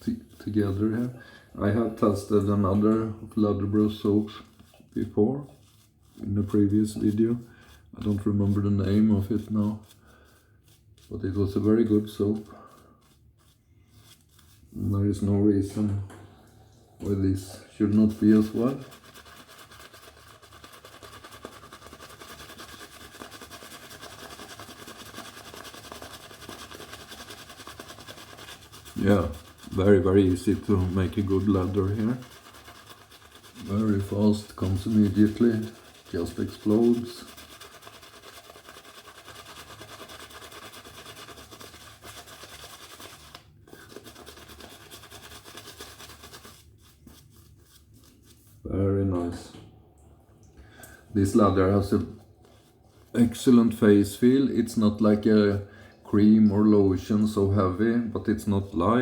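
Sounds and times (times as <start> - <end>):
shaving brush swirling lather: 0.0 - 15.4, 17.1 - 48.6, 51.3 - 55.5.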